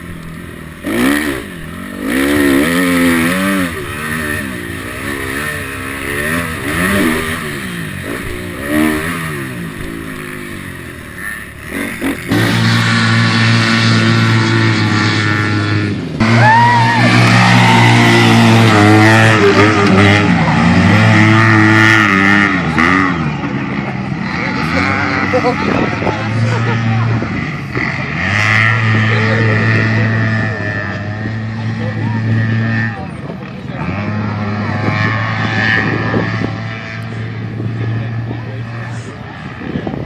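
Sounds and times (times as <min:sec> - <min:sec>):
dirt bike engines revving: 0:00.0 - 0:40.0
steady engine drone: 0:00.0 - 0:40.0.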